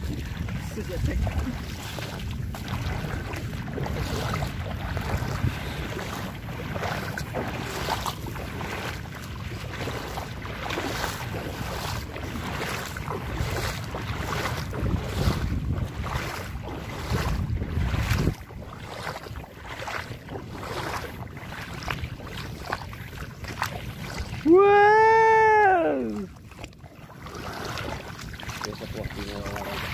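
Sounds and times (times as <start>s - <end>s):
footsteps splashing through water: 0.0s - 29.9s
wind rumbling on microphone: 0.0s - 29.9s.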